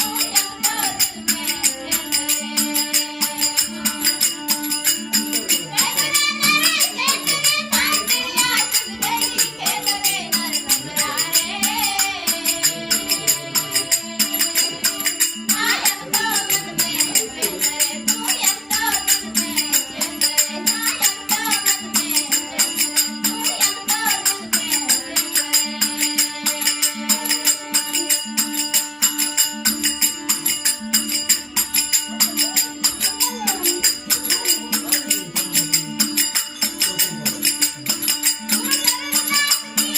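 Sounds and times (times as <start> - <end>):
jingling hand percussion: 0.0 - 39.9
people singing: 0.0 - 39.9.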